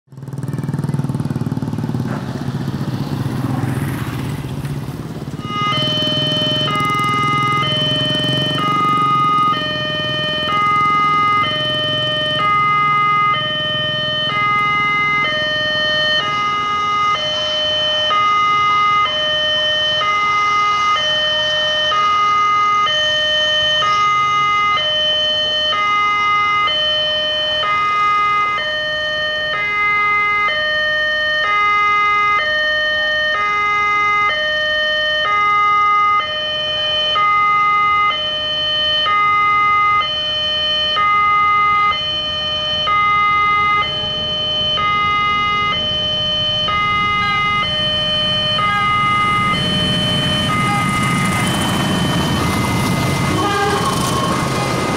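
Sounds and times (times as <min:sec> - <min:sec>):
level crossing two-tone alarm: 0:05.4 - 0:54.6.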